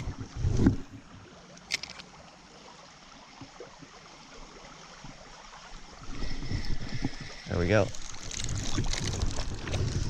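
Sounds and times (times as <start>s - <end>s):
small mountain stream running: 0.0s - 10.0s.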